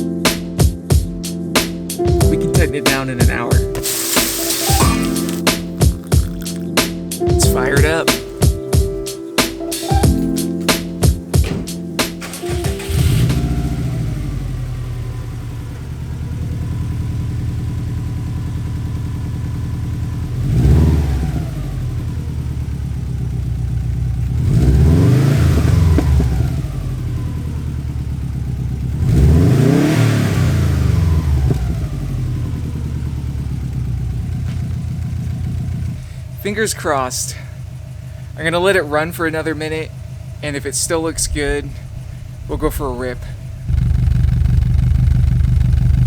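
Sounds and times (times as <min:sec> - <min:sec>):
car engine idling and revving: 0:07.6 - 0:46.0.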